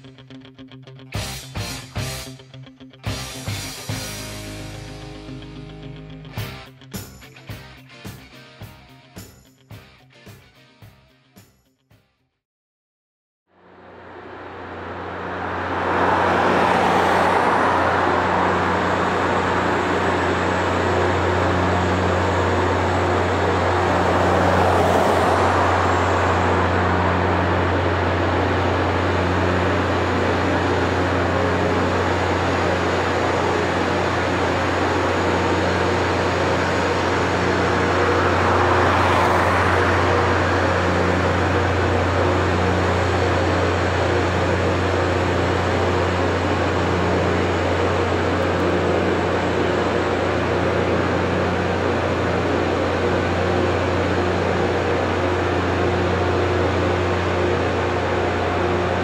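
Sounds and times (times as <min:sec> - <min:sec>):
diesel engine drone: 0:00.0 - 0:06.9, 0:13.5 - 0:59.0.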